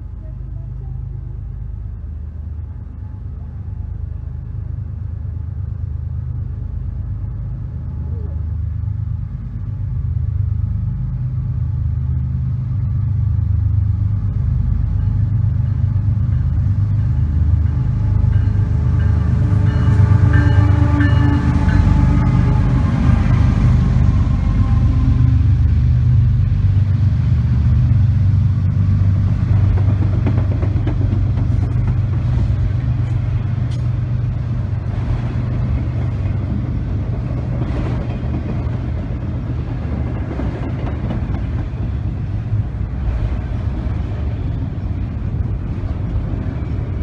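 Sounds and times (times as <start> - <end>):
diesel locomotive engine rumble: 0.0 - 47.0
rail and wheel clatter: 0.0 - 47.0.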